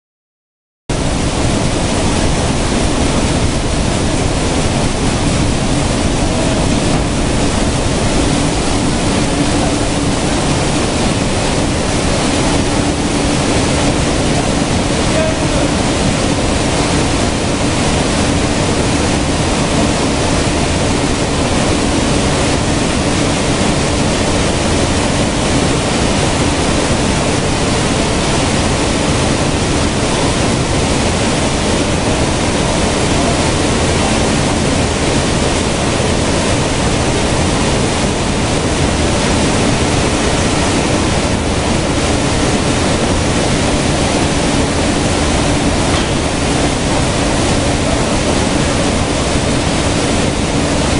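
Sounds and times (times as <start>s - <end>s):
constant machine hum: 0.9s - 50.9s
machine rushing noise: 0.9s - 50.9s.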